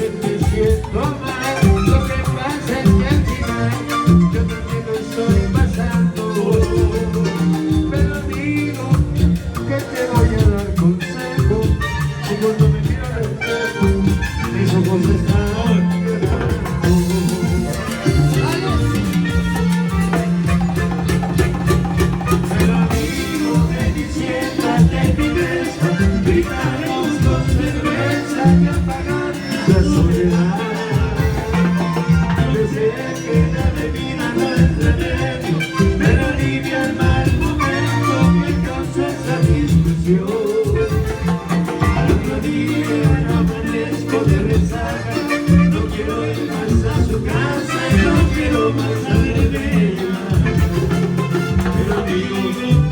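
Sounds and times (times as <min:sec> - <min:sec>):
band playing salsa music: 0:00.0 - 0:52.9.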